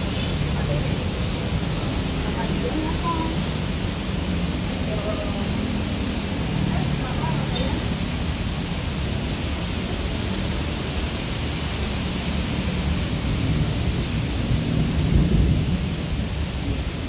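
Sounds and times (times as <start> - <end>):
rain hissing on street: 0.0 - 17.0.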